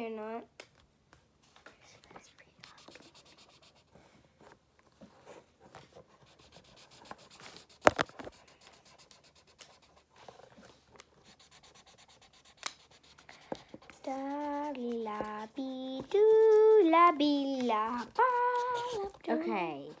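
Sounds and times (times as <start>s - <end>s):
markers scratching on paper: 1.8s - 4.0s, 5.7s - 20.0s.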